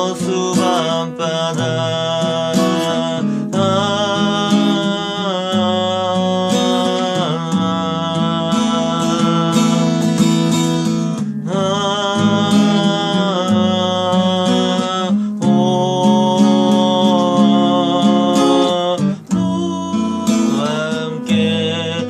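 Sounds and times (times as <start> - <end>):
acoustic guitar playing: 0.0 - 22.0
sustained melody line: 0.0 - 22.0.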